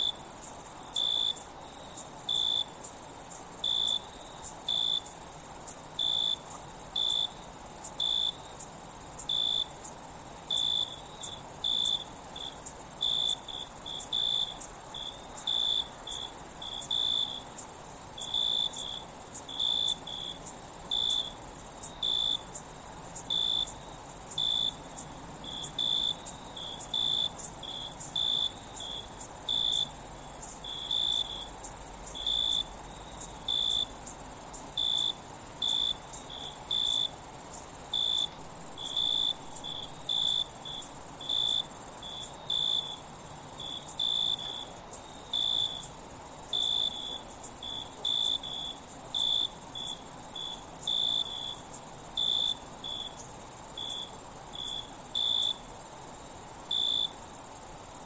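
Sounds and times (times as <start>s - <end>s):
crickets chirping: 0.0s - 58.0s
high-pitched insect trill: 0.0s - 58.0s.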